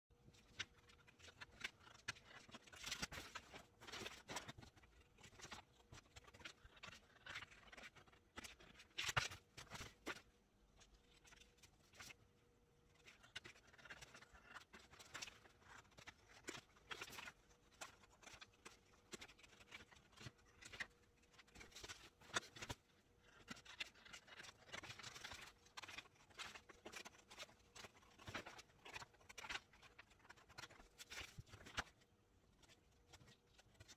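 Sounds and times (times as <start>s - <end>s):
paper rustling: 0.3s - 10.3s, 12.9s - 33.9s.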